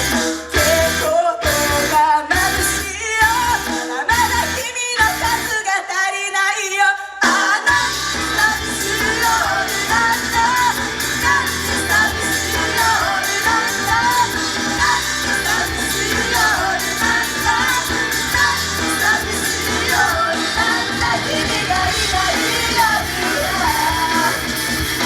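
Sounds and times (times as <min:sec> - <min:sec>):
pop song sung live: 0:00.0 - 0:25.0.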